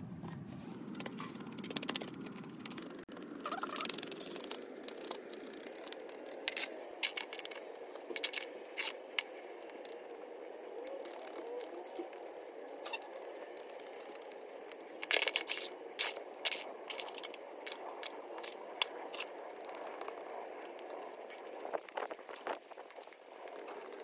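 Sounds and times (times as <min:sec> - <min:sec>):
stick scraping through soil: 0:03.5 - 0:24.0.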